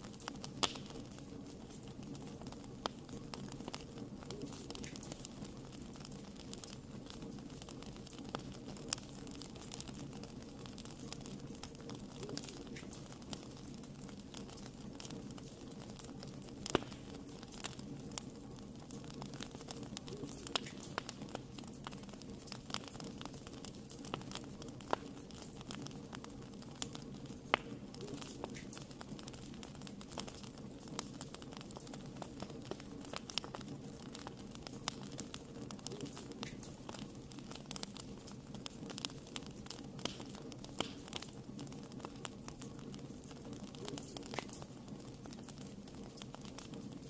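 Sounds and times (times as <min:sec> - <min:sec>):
burning wood crackling and popping: 0:00.0 - 0:47.0
fire rumbling: 0:00.0 - 0:47.0.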